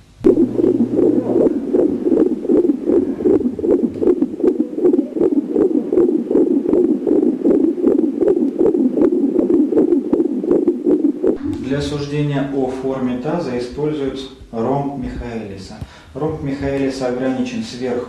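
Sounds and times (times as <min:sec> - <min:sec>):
fast muffled fetal heartbeat: 0:00.0 - 0:17.4.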